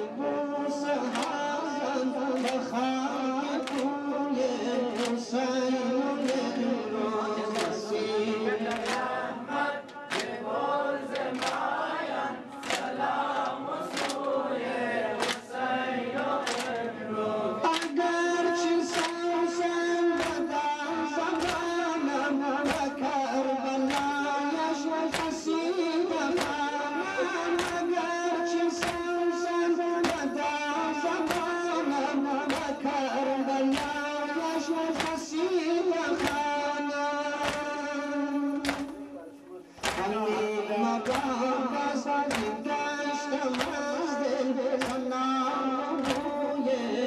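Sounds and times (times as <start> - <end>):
group chanting in unison: 0.0 - 47.0
rhythmic slaps or claps: 0.0 - 47.0.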